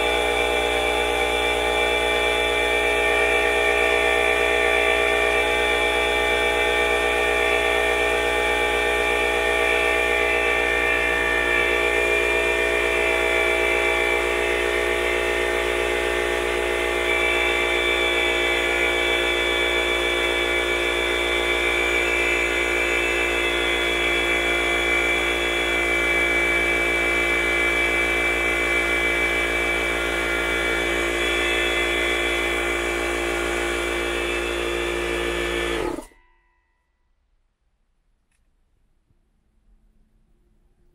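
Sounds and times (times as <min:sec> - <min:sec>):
air compressor running: 0:00.0 - 0:36.1.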